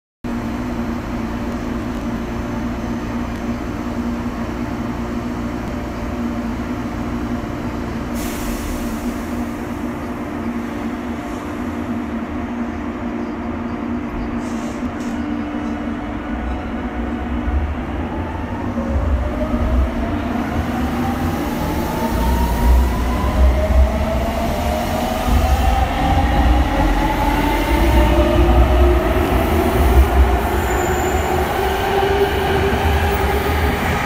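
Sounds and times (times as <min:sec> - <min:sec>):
train equipment humming: 0:00.3 - 0:34.0.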